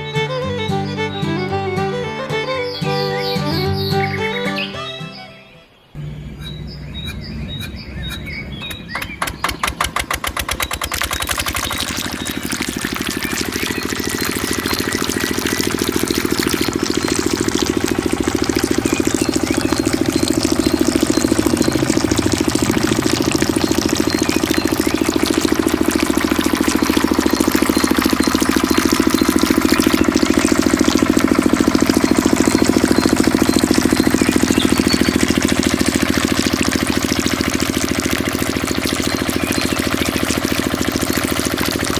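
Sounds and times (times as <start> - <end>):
diesel engine starting and running: 5.9 - 41.9.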